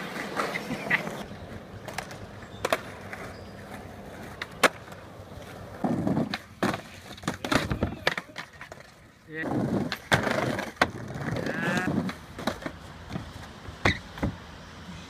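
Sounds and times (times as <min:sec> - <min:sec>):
skateboard clacking on ground: 0:00.0 - 0:14.4
skateboard wheels rolling: 0:00.0 - 0:15.0.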